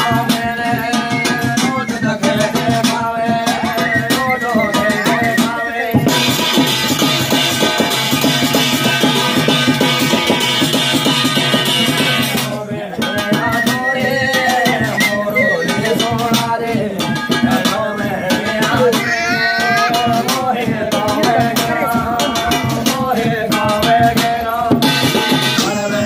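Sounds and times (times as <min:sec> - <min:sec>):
man singing: 0:00.0 - 0:10.0, 0:11.8 - 0:26.0
drum beats: 0:00.0 - 0:26.0
rattling percussion: 0:00.0 - 0:26.0.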